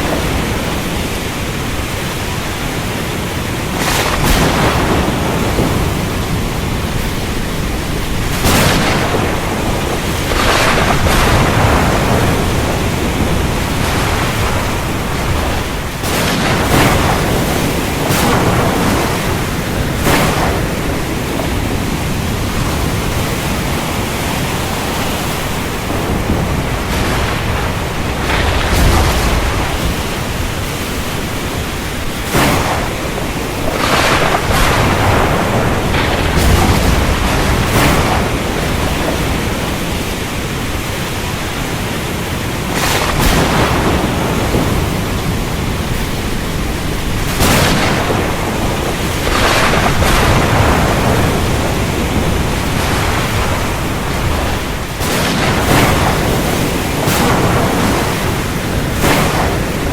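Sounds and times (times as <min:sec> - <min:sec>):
heavy rain hissing: 0:00.0 - 0:59.9
thunder cracks: 0:00.0 - 0:59.9.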